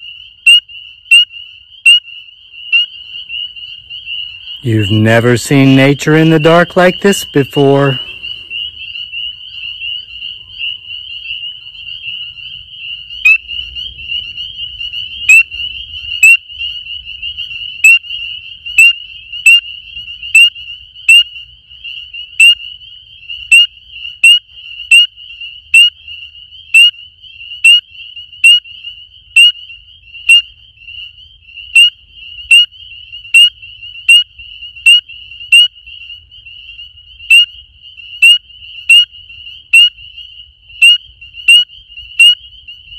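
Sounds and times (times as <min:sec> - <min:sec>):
chorus of frogs: 0:00.0 - 0:42.9
frog high peeps: 0:00.0 - 0:42.9.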